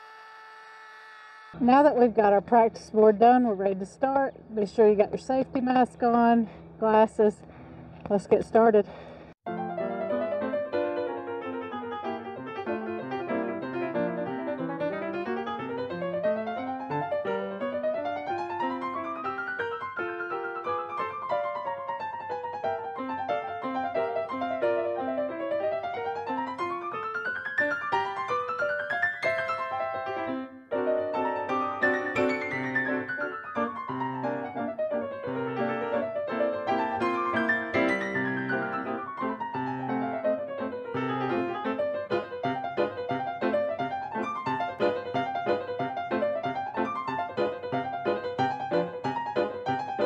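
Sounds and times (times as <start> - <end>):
piano music: 9.5 - 50.0.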